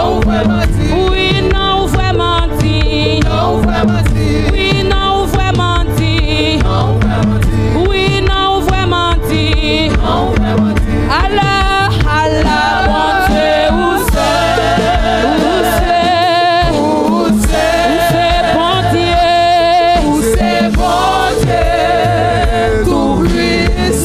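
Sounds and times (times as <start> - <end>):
backing women's voices singing: 0.0 - 24.0
band accompaniment with beat: 0.0 - 24.0
woman singing lead: 0.0 - 24.0.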